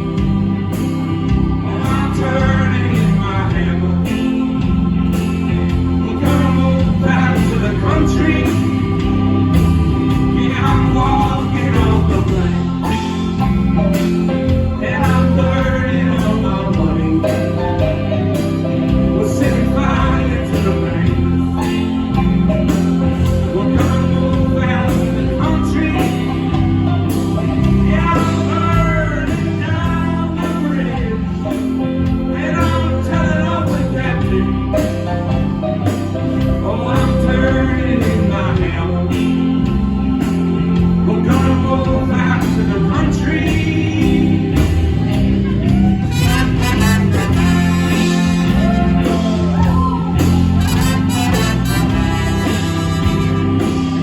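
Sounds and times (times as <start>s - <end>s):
live soul-blues band playing: 0.0s - 54.0s.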